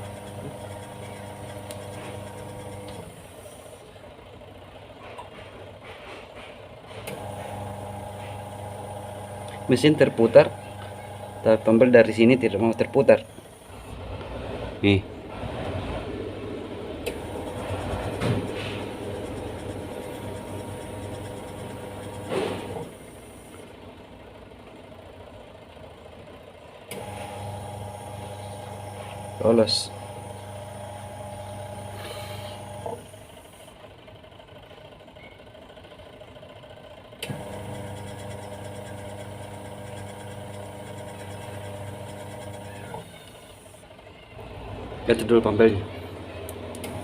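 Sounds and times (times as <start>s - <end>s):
washing machine motor humming: 0.0s - 4.8s, 6.9s - 23.7s, 26.8s - 33.8s, 37.2s - 47.0s.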